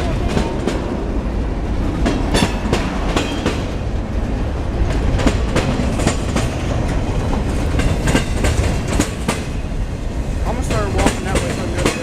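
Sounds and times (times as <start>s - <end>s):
train rumble: 0.0s - 12.0s
wheels clicking over rail joints: 0.0s - 12.0s.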